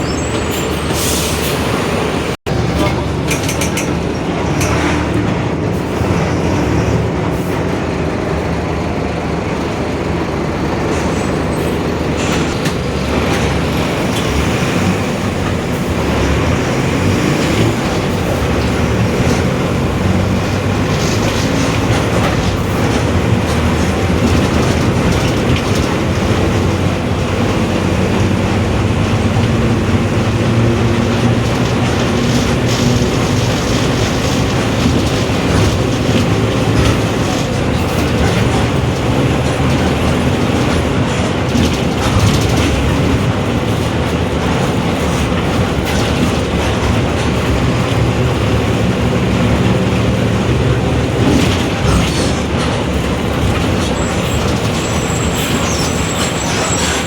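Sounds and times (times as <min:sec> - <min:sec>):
diesel bus engine: 0:00.0 - 0:57.0
road noise: 0:00.0 - 0:57.0
low differential growl: 0:04.0 - 0:57.0.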